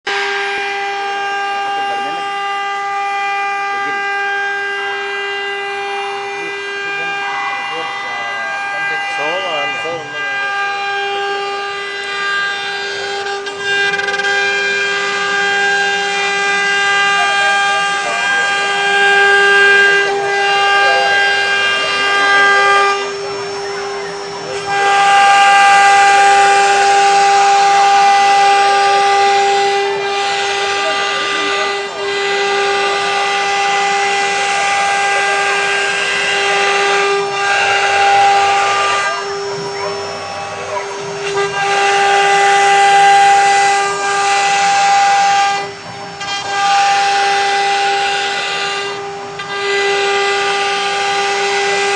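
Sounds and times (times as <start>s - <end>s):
router spindle motor whine: 0.0s - 51.9s
cutting hiss: 4.9s - 51.9s.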